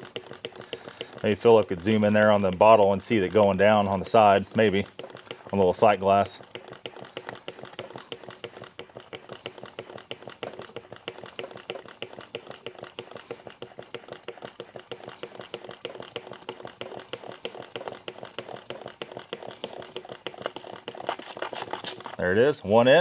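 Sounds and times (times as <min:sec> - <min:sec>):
clicking hand pump strokes: 0:00.0 - 0:23.0.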